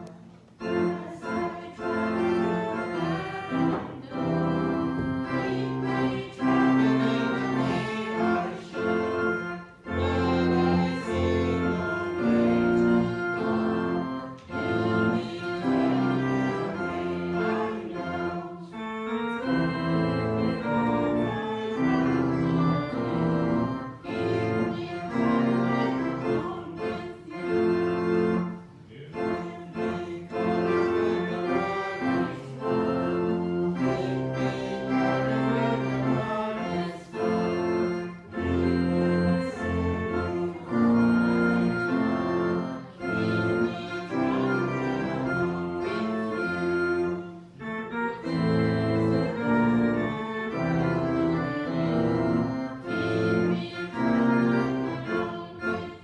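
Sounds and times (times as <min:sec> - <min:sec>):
organ playing held chords: 0:00.0 - 0:56.0.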